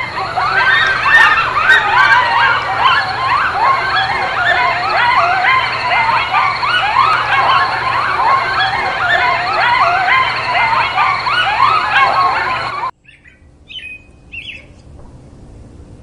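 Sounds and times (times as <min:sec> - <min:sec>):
chorus of animal cries: 0:00.0 - 0:12.9.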